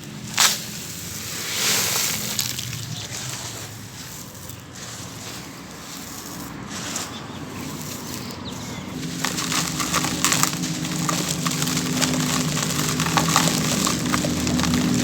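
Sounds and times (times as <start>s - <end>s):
fizzing crackle of crumbling chunks: 0.1s - 3.4s, 4.0s - 15.0s.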